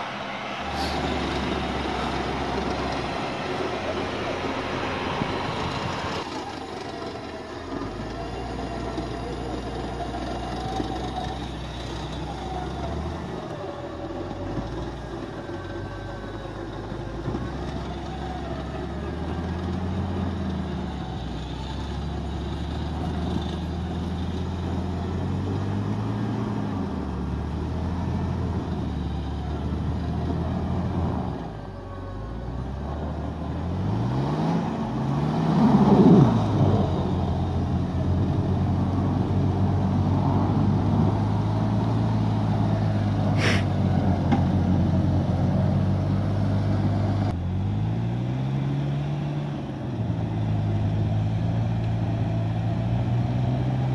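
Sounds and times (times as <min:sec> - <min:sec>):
engine running under load: 0:00.0 - 0:53.9.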